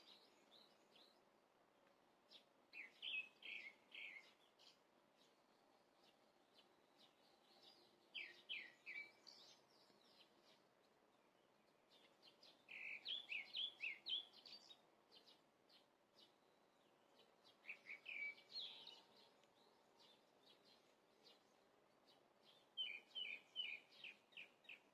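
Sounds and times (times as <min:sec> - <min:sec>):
faint steady hiss: 0:00.0 - 0:24.9
songbird chirping: 0:00.0 - 0:24.9.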